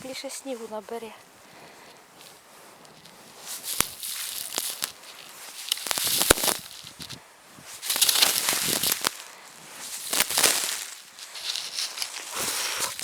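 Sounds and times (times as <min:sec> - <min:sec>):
frozen snow crunching and squeaking: 0:02.0 - 0:13.0.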